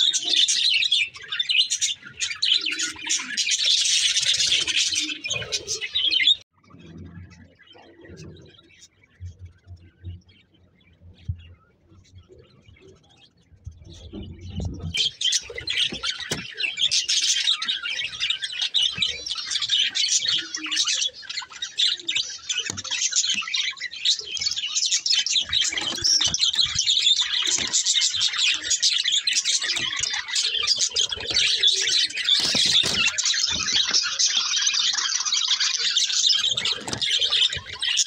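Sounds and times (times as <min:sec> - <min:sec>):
budgerigars chirping and chattering: 0:00.0 - 0:38.0.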